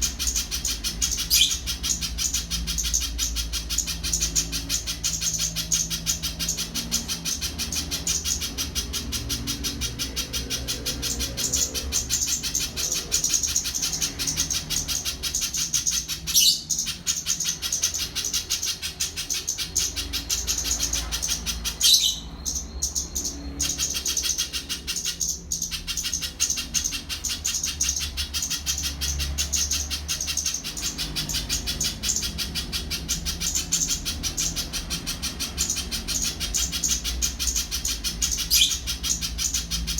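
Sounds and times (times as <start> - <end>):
bird calling high sharp chips: 0.0 - 39.9.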